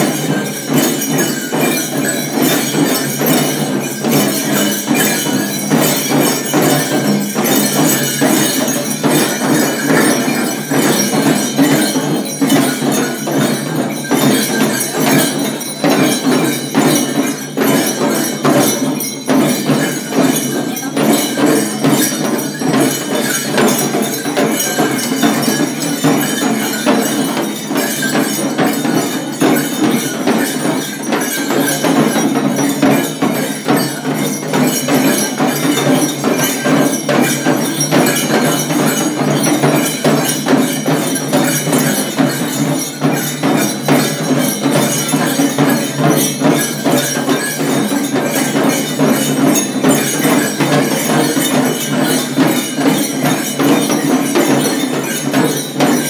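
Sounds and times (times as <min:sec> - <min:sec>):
bells jangling: 0:00.0 - 0:56.0
frame drums beaten rapidly: 0:00.0 - 0:56.0.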